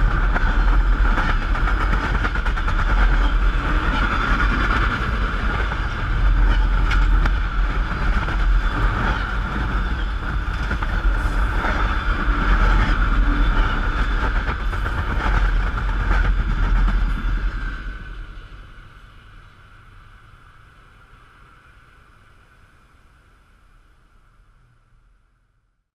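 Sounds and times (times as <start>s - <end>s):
train rumbling past: 0.0s - 25.6s.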